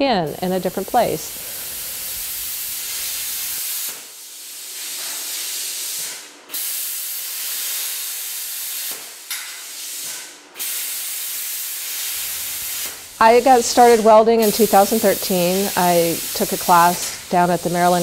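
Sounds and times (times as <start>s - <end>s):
welding arc hissing and crackling: 0.0s - 18.0s.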